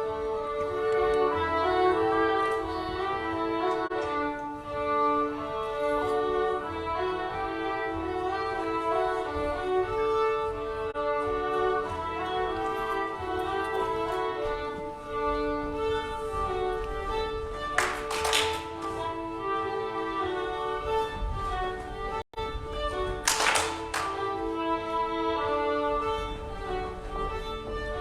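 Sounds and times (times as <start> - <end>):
fiddle folk dance tune: 0.0 - 28.0.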